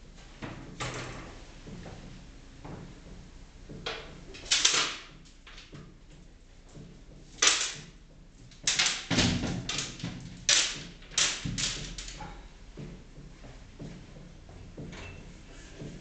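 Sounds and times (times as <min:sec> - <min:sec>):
objects knocking and clattering: 0:00.4 - 0:16.0.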